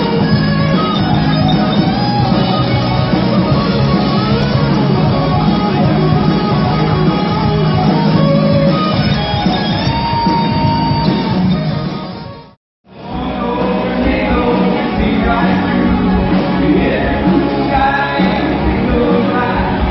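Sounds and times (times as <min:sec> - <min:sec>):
rock band playing instrumental: 0:00.0 - 0:19.9.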